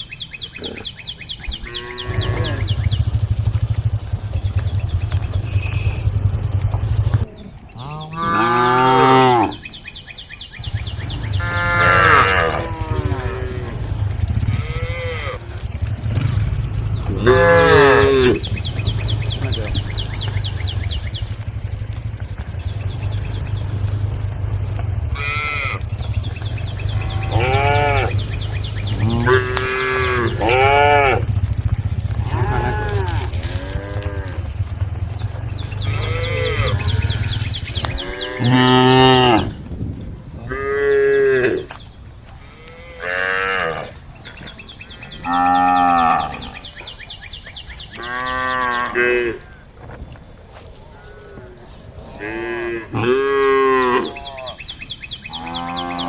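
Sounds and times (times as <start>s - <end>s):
cows mooing: 1.6s - 3.9s, 4.5s - 9.7s, 10.9s - 39.6s, 40.4s - 41.8s, 42.4s - 46.8s, 47.9s - 49.6s, 50.9s - 54.6s, 55.3s - 56.0s.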